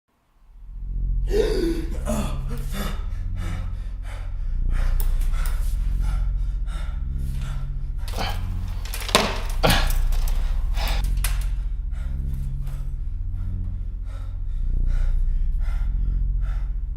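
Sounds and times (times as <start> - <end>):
low steady drone: 0.2 - 16.9.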